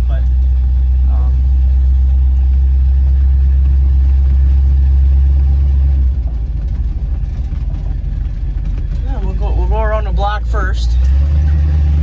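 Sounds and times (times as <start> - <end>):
engine drone inside truck cab: 0.0 - 12.0
low choppy engine rumble: 0.0 - 12.0.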